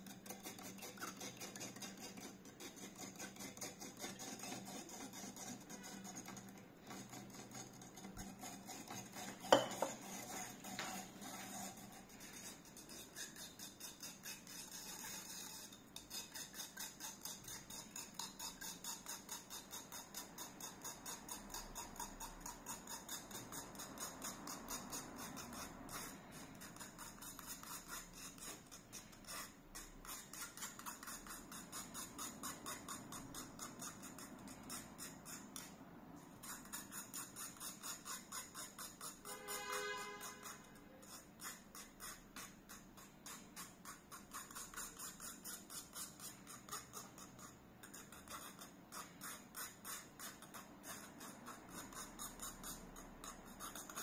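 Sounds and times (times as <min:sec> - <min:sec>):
stick scraping metal strainer: 0:00.0 - 0:54.0.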